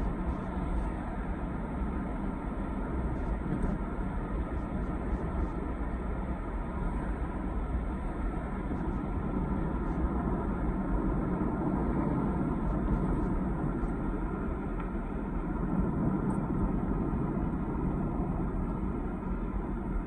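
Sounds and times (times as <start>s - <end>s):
car interior road and engine noise: 0.0s - 20.0s.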